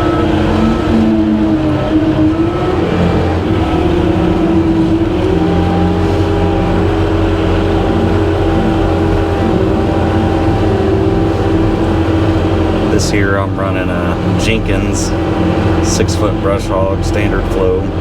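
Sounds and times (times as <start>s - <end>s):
brush mower cutting grass: 0.0s - 18.0s
skid steer engine at high throttle: 0.0s - 18.0s.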